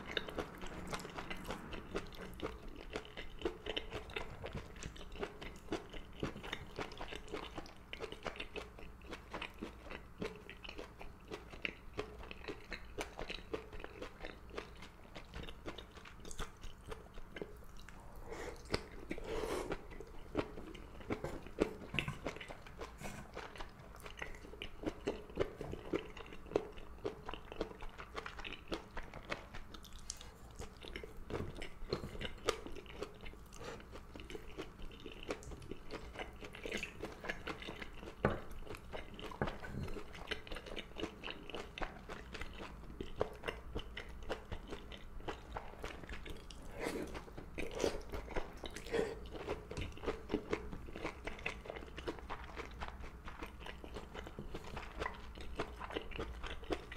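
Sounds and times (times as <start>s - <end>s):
chewing greens: 0.0s - 56.9s.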